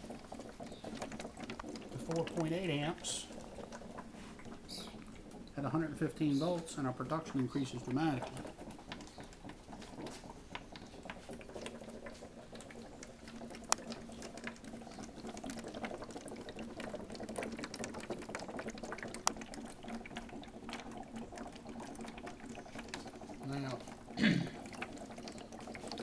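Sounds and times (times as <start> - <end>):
gas bubbling through water: 0.0 - 26.0.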